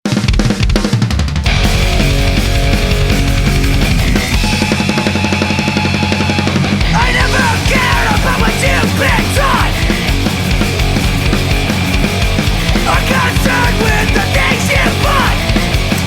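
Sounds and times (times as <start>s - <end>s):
heavy punk metal rock music: 0.1s - 16.0s.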